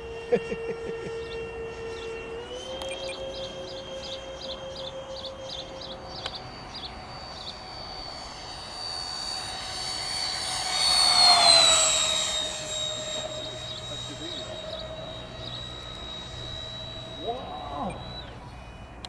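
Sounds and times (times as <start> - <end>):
model jet fan whine: 0.0 - 19.0.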